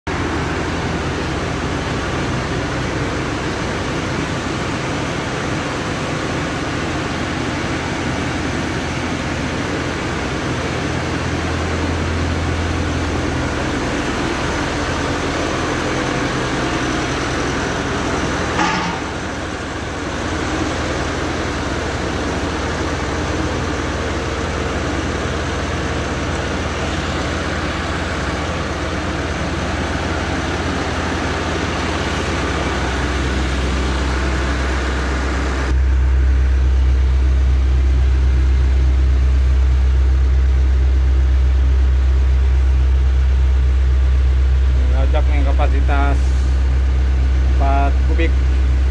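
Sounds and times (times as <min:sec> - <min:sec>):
diesel engine idling: 0:00.1 - 0:48.9.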